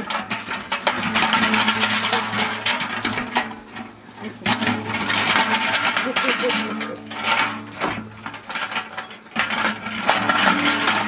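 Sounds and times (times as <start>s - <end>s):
metal can rattling over gravel: 0.0s - 11.0s.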